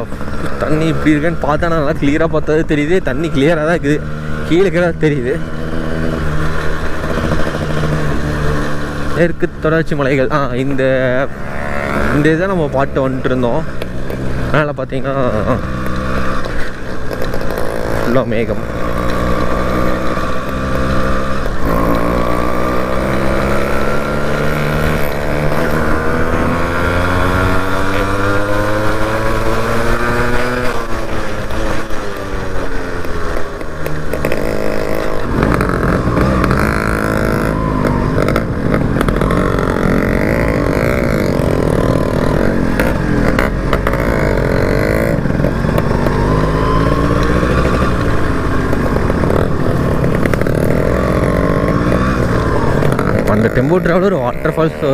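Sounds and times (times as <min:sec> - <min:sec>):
two-stroke motorcycle engine: 0:00.0 - 0:54.9.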